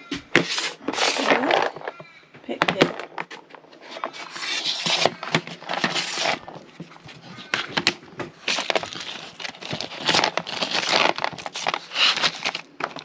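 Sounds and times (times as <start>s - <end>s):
plastic bag crinkling: 0.4s - 13.0s.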